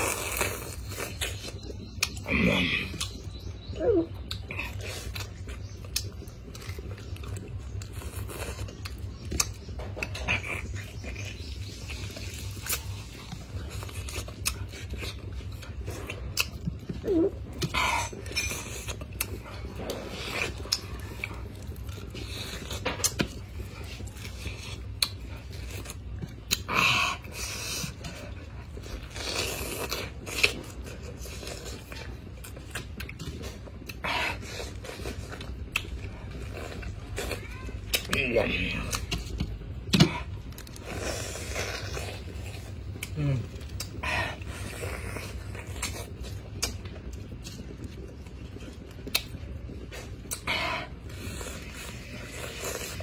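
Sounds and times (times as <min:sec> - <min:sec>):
person chewing pineapple: 0:00.0 - 0:53.0.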